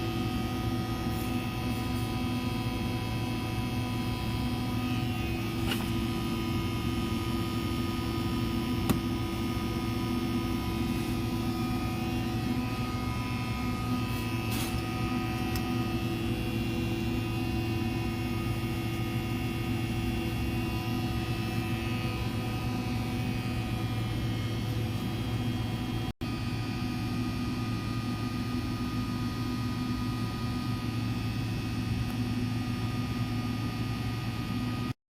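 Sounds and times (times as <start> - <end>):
constant machine tones: 0.0 - 35.0
steady electrical hum: 0.0 - 35.0.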